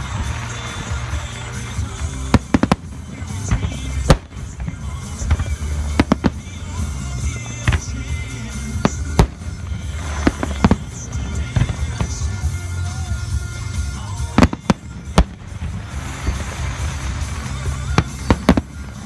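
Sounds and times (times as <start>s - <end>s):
firework shells bursting: 0.0s - 19.0s
music playing: 0.0s - 19.0s.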